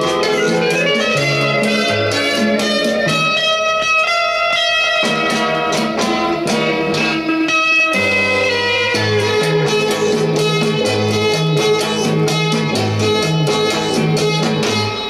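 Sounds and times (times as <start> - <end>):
guitar music from vinyl record: 0.0 - 15.0.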